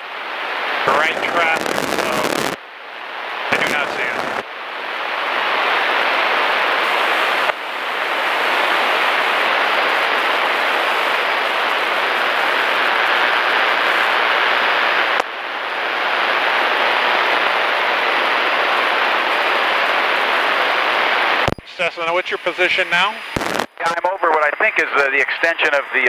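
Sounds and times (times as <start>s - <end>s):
aircraft cockpit noise through headset: 0.8s - 26.0s.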